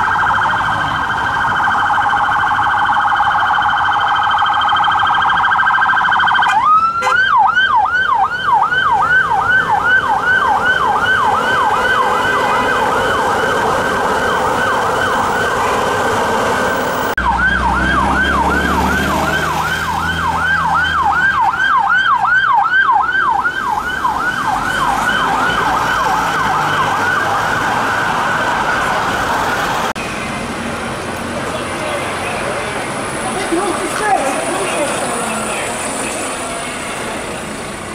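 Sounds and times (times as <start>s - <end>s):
police siren wailing: 0.0s - 30.0s, 31.5s - 37.9s.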